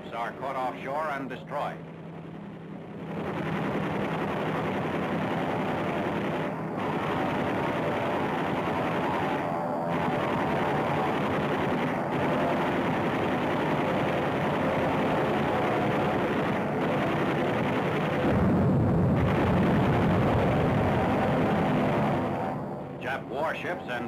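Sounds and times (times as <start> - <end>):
low rumble: 0.0 - 24.0
warplane engines droning: 0.0 - 24.0.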